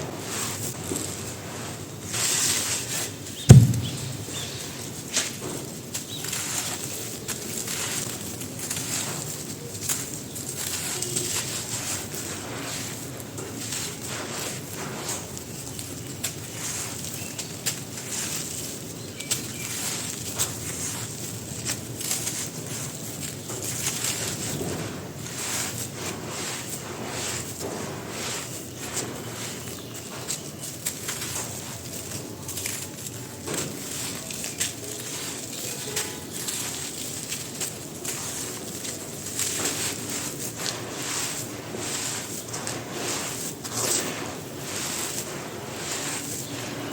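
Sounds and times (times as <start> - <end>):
sand crumbling crackle: 0.0 - 46.9.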